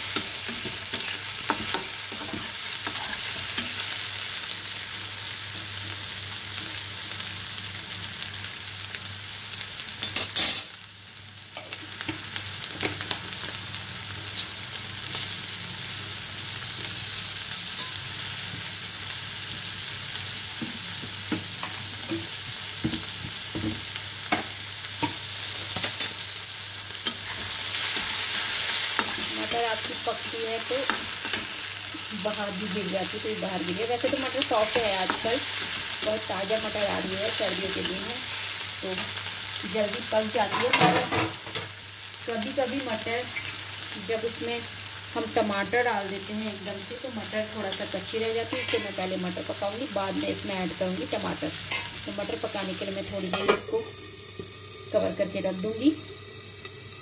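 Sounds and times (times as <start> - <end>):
onion and peas sizzling in hot oil: 0.0 - 57.0.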